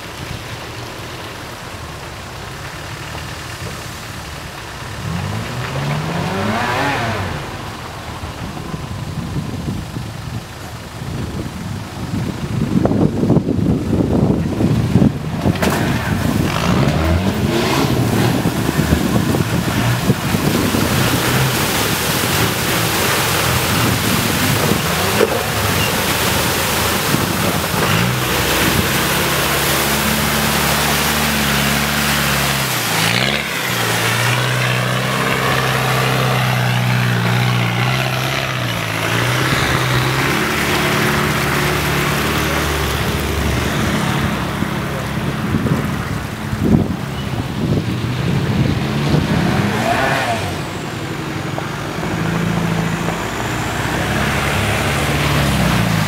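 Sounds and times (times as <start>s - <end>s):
water washing around vehicle: 0.0s - 56.0s.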